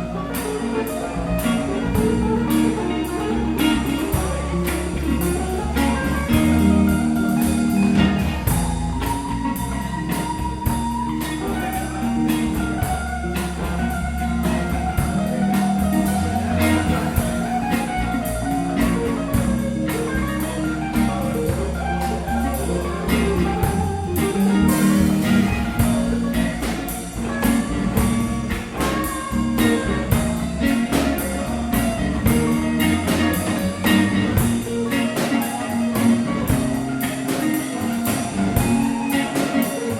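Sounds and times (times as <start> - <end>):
bass line: 0.0 - 39.9
drum kit steady beat: 0.0 - 39.9
guitar: 0.0 - 39.9.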